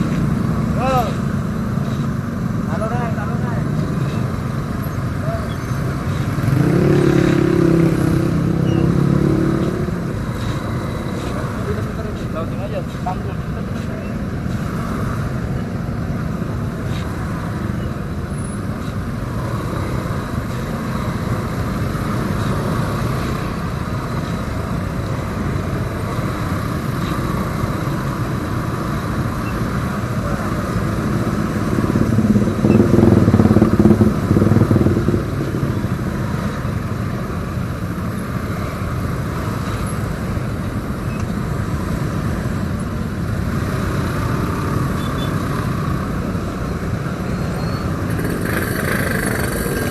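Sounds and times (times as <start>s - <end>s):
motorcycle riding: 0.0s - 49.9s.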